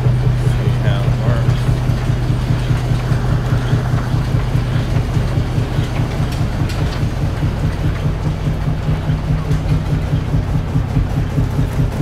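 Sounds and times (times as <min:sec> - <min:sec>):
belt-driven machinery droning: 0:00.0 - 0:12.0.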